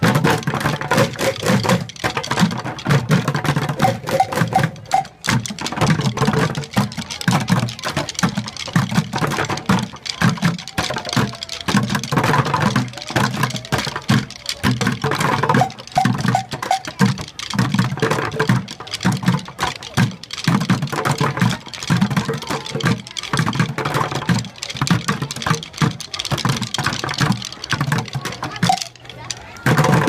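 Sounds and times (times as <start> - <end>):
drummers playing plastic buckets: 0.0 - 30.0.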